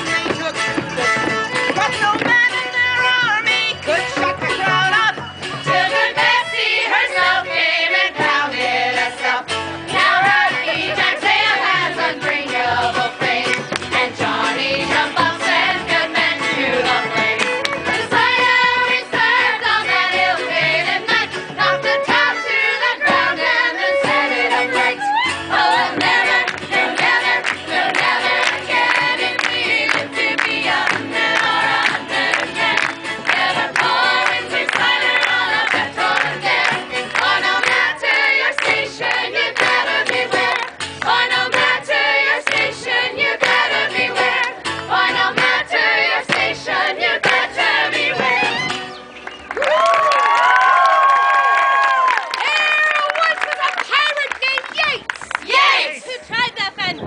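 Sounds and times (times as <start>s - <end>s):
music with sharp beats: 0.0s - 48.9s
voices singing together: 2.4s - 49.0s.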